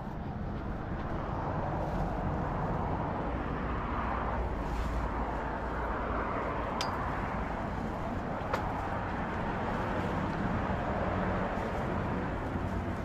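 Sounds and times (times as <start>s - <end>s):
outdoor background noise: 0.0s - 13.0s
wind rumbling on microphone: 0.0s - 13.0s.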